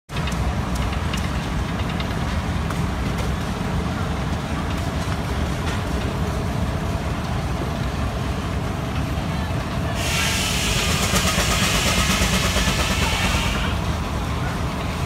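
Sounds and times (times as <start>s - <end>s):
steam engine rumbling: 0.1s - 15.0s.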